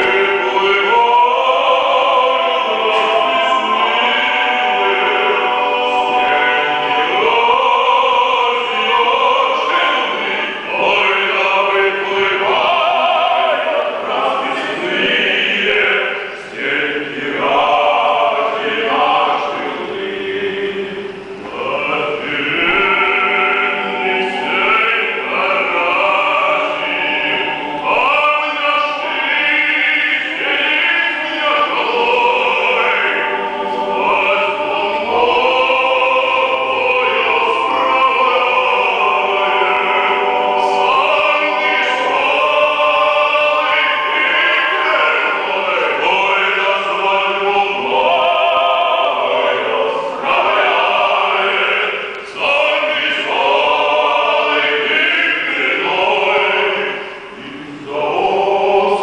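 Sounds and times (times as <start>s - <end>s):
men singing in harmony: 0.0s - 59.0s.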